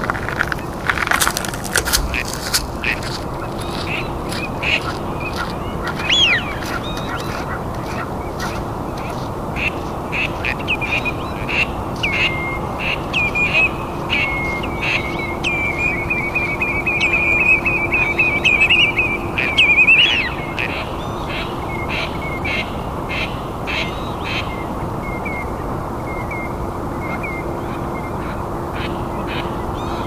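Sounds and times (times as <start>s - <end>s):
birds chattering calls: 0.0s - 30.0s.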